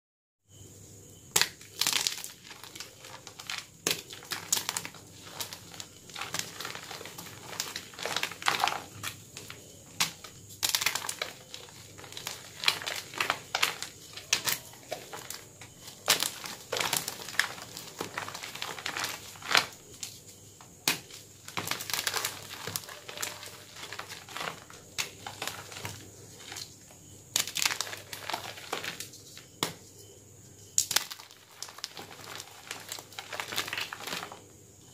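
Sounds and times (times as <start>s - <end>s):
chalk blocks crunching: 1.3s - 29.9s, 30.8s - 34.5s
powdery crumbling rustle: 1.4s - 34.9s.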